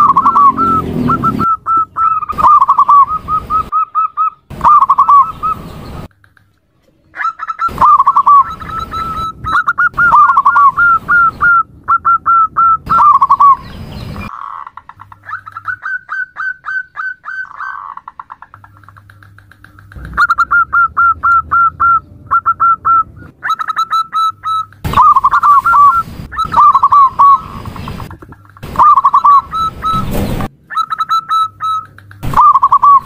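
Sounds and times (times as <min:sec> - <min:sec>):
dove cooing: 0:00.0 - 0:05.6, 0:07.1 - 0:13.6, 0:14.2 - 0:33.0.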